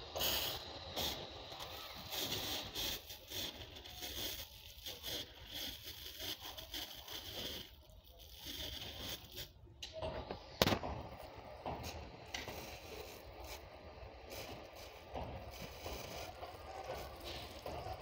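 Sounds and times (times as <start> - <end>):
hose spray hissing: 0.0 - 9.6, 11.6 - 18.0.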